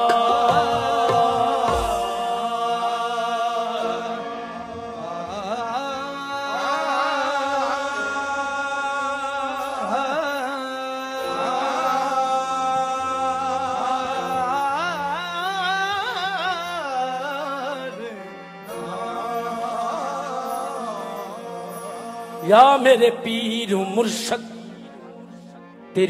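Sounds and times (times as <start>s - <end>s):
harmonium holding notes: 0.0s - 26.0s.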